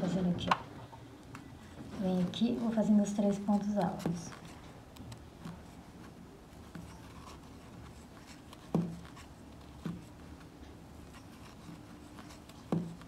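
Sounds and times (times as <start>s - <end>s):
crochet thread scratching: 2.0s - 13.0s.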